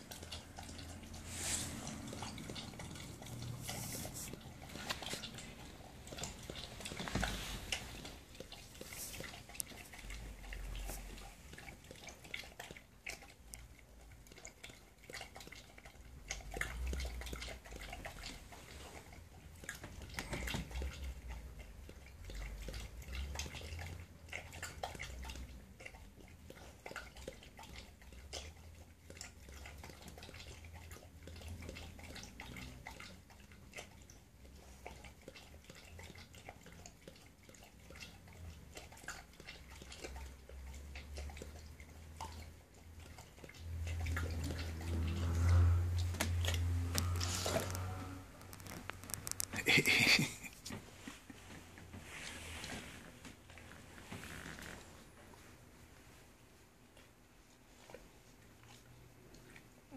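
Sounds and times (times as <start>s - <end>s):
dog lapping water from metal pot: 0.0s - 50.4s.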